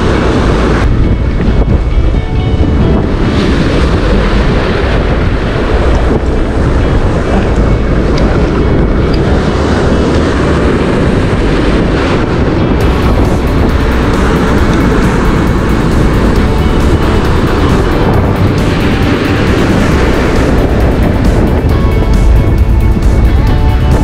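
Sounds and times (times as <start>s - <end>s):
sea surf breaking over rocks: 0.0s - 24.0s
wind buffeting microphone: 0.0s - 24.0s.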